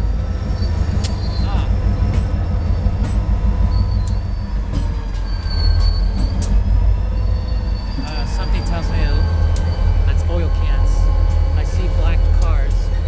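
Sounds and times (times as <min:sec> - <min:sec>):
freight train rumbling: 0:00.0 - 0:13.0
high wheel squeal: 0:00.0 - 0:13.0
train cars clanking: 0:00.0 - 0:13.0.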